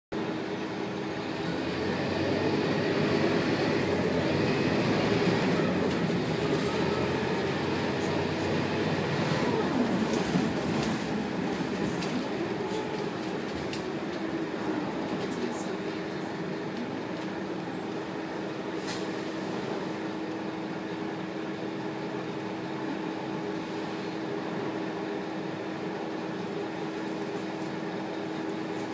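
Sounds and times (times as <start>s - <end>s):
bus diesel engine running: 0.1s - 28.9s
road noise: 0.2s - 28.9s.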